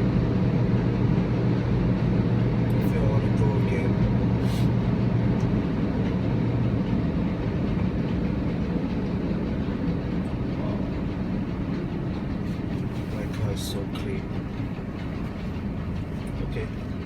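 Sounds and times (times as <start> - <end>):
car wash machinery rumble: 0.0 - 17.0.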